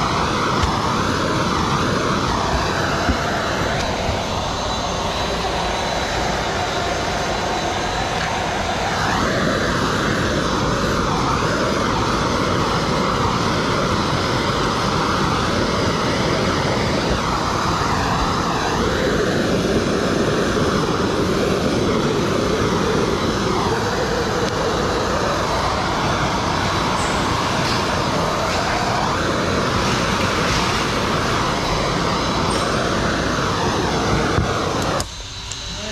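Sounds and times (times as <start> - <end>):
gas torch flame roaring: 0.0 - 35.9.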